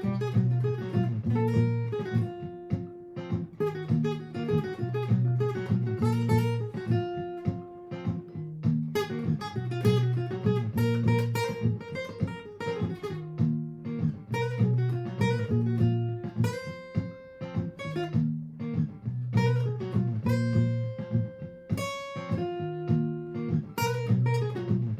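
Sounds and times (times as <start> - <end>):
acoustic guitar picked notes: 0.0 - 24.9
looped guitar part: 0.0 - 24.9.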